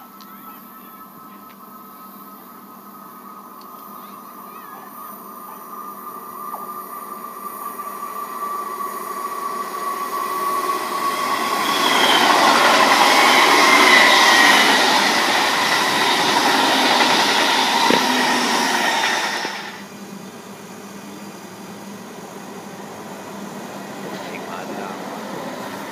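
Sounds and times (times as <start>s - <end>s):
passenger train passing: 0.0s - 25.9s.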